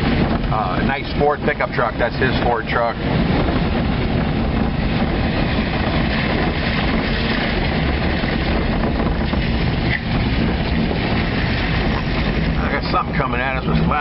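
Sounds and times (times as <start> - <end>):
vehicle driving on wet road: 0.0 - 14.0.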